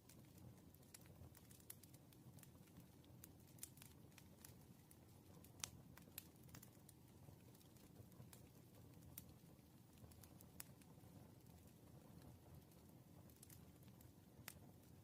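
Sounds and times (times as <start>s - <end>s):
rumble of burning logs: 0.0s - 15.0s
wood fire crackling: 0.0s - 15.0s.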